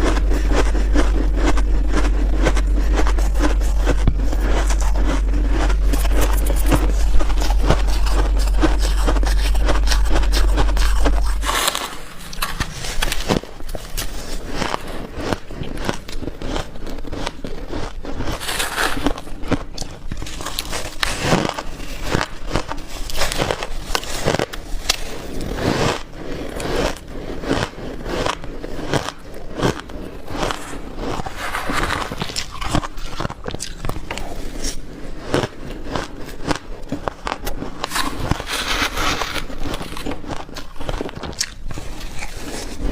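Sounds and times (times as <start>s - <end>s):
ice crunching while chewed: 0.0s - 42.9s
steady low hum: 0.0s - 42.9s.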